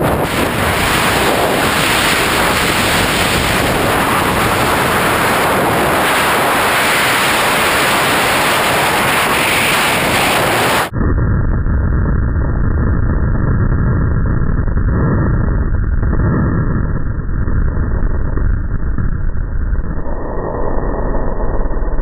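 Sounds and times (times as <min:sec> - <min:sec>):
wind blasting across microphone: 0:00.0 - 0:22.0.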